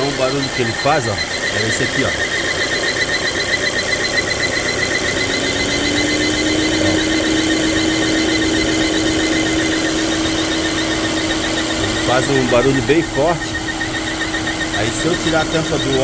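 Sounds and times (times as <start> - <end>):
car engine idling: 0.0 - 16.0
loud high whistle: 0.0 - 16.0
lower whistling tone: 0.0 - 16.0.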